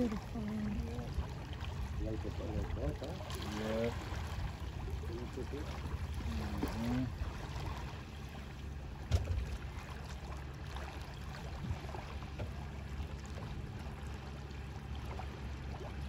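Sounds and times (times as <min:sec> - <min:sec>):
steady low rumble: 0:00.0 - 0:16.0
water lapping beside boat: 0:00.0 - 0:16.0.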